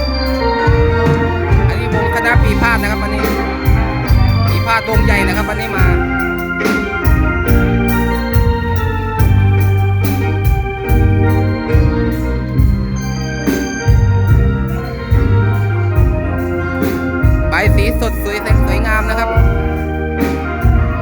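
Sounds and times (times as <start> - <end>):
drum beats: 0.0 - 21.0
sustained melody notes: 0.0 - 21.0.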